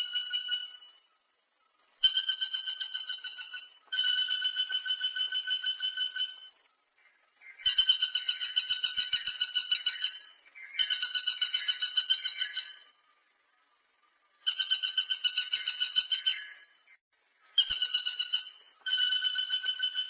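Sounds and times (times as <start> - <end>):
woodpecker rattling call: 0.0 - 1.0, 2.0 - 13.0, 14.4 - 20.0.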